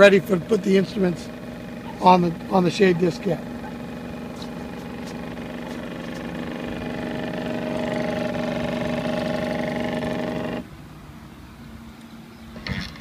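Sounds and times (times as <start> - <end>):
drive motor whining: 0.0 - 10.7.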